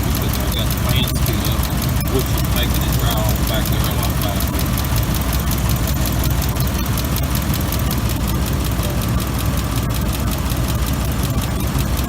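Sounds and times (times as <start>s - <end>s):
air conditioning fan running: 0.0s - 12.0s
truck engine idling: 0.0s - 12.0s.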